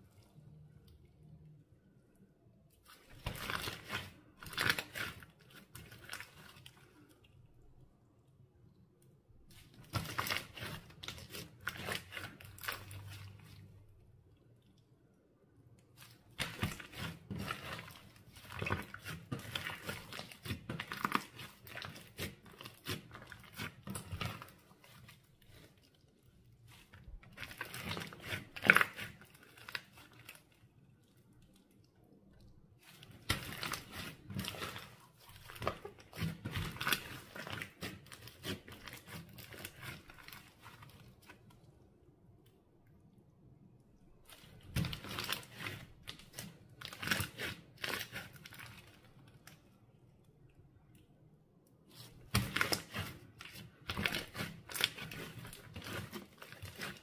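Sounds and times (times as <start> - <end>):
slime squished and stretched: 0.0 - 42.8, 44.0 - 57.0.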